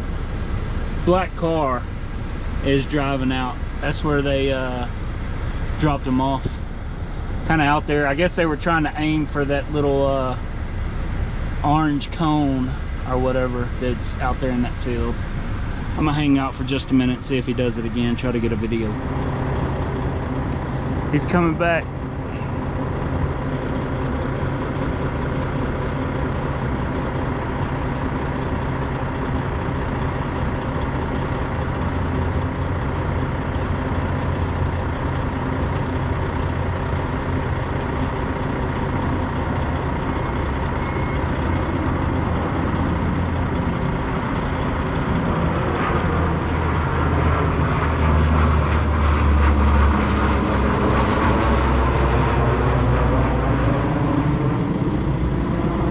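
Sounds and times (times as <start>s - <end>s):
diesel engine idling: 0.0s - 55.9s
propeller plane engines: 0.0s - 55.9s.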